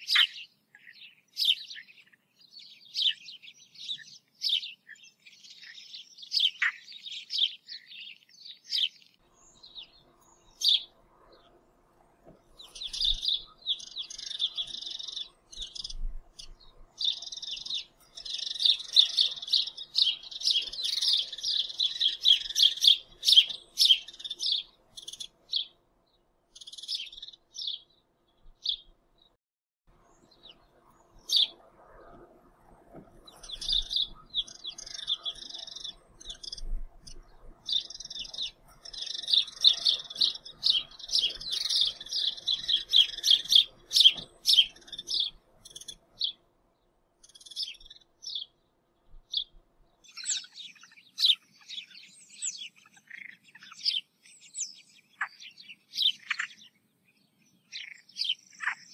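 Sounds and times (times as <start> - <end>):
small bird chirping: 0.0 - 11.5, 12.6 - 25.8, 26.6 - 28.9, 30.1 - 31.6, 33.3 - 46.4, 47.2 - 58.9.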